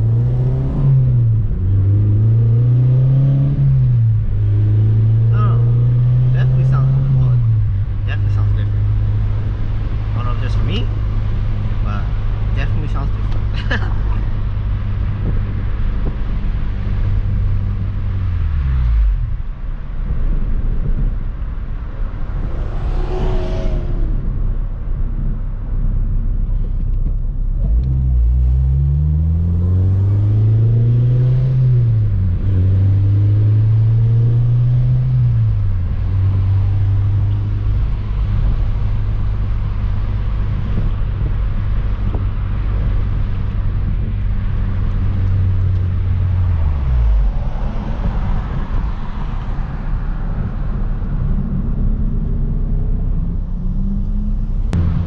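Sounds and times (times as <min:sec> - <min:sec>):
car engine accelerating and cruising: 0:00.0 - 0:55.0.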